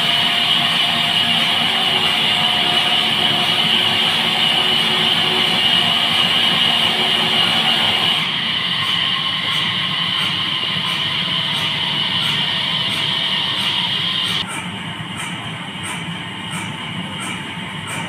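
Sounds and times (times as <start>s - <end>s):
band saw blade cutting timber: 0.0s - 18.0s
sawmill machine hum: 0.0s - 18.0s.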